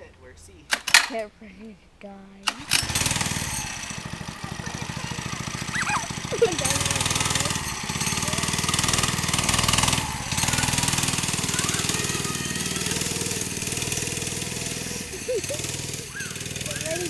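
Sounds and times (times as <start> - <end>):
go-kart engine running: 0.7 - 1.2, 2.4 - 17.0.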